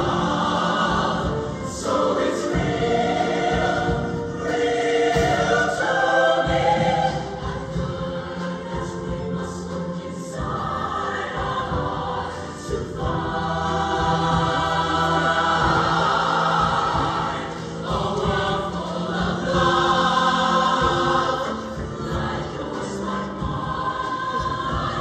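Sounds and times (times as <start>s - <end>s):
choir singing held chords: 0.0s - 25.0s.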